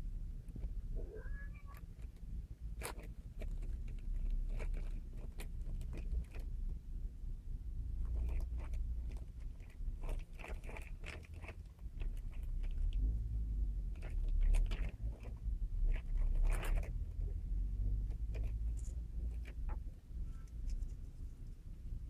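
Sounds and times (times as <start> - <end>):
low steady hum: 0.0 - 22.0
crinkling rustles and scratches: 0.4 - 6.8, 7.9 - 22.0.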